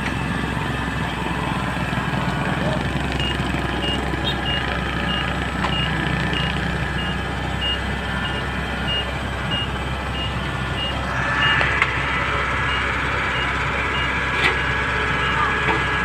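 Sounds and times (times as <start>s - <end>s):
diesel engine running: 0.0s - 16.0s
reversing alarm beeps: 3.1s - 16.0s.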